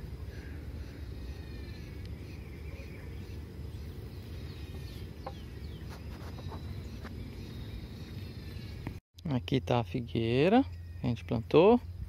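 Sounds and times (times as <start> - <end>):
bird chirps: 0.3 - 9.0, 10.4 - 12.0.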